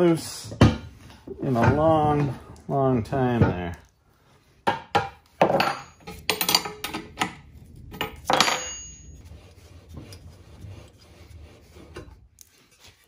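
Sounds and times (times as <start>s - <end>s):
metal scraping and rubbing: 0.0s - 4.6s, 5.2s - 13.0s.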